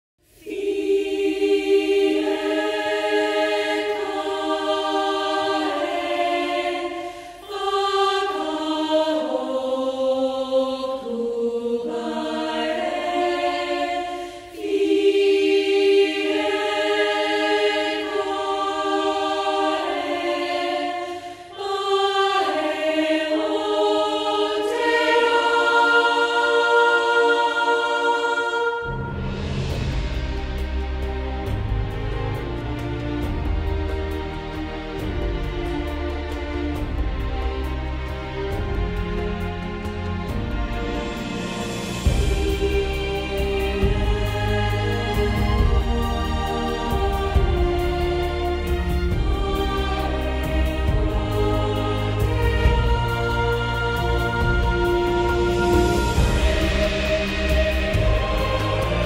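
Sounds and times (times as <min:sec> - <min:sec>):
choir singing sustained chords: 0:00.2 - 0:59.0.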